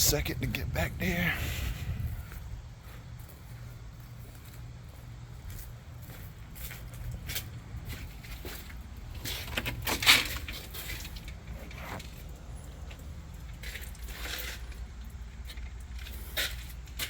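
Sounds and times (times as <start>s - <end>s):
crunching footsteps: 0.2s - 17.0s.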